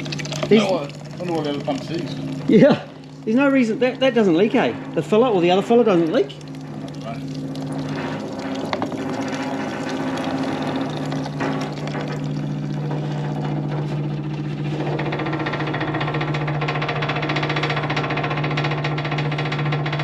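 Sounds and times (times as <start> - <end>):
electric fuel pump buzzing: 0.0 - 20.0.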